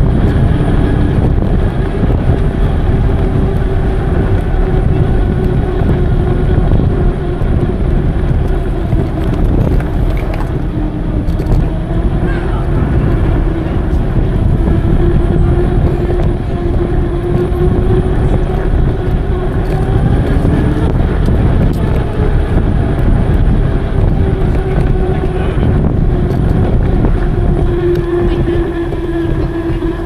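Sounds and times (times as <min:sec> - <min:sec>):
steady low hum: 0:00.0 - 0:30.0
wind noise on microphone: 0:00.0 - 0:30.0.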